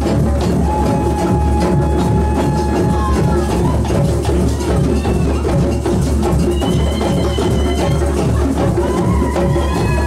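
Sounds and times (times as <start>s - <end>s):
hand drums playing a groove: 0.0s - 10.0s.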